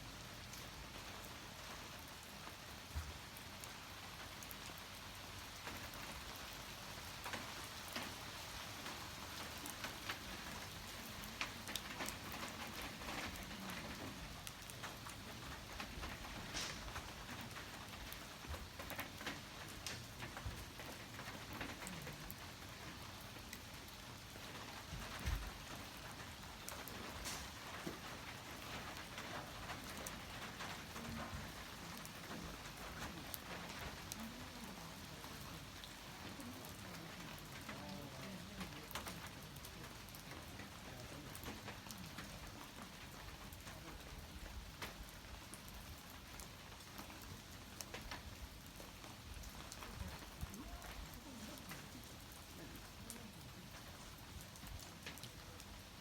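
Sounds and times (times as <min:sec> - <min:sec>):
campfire crackling and popping: 0:07.2 - 0:55.8.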